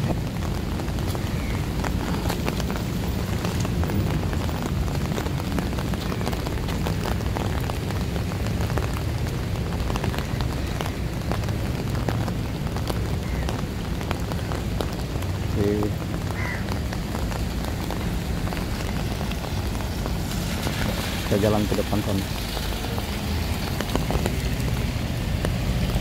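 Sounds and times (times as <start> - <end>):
rain on wet pavement: 0.0 - 26.0.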